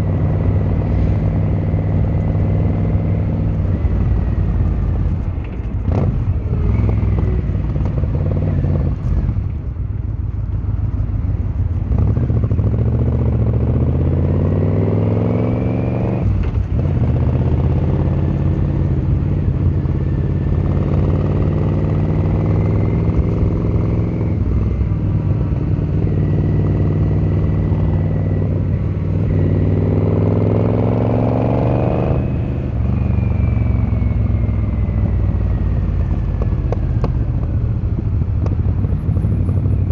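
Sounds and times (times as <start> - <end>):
motorcycle engine accelerating: 0.0 - 9.8, 10.6 - 39.9.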